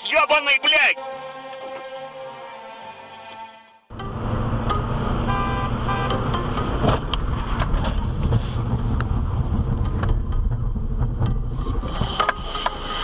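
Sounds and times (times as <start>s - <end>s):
road and engine rumble: 1.0s - 13.0s.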